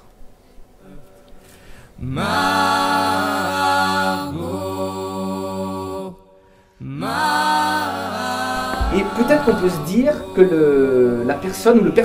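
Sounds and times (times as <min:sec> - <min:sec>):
slow chant-like vocal music: 0:00.8 - 0:12.0.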